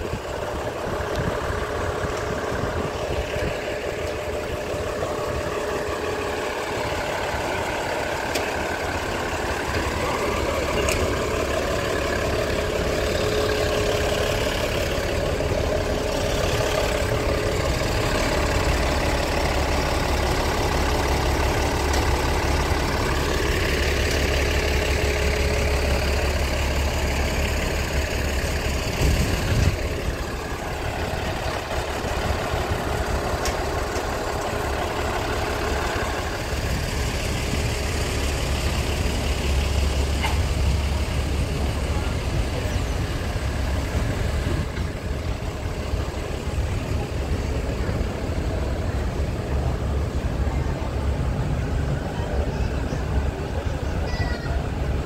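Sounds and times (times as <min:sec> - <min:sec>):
diesel railcar engine idling: 0:00.0 - 0:55.0
railcar jolt: 0:00.0 - 0:55.0.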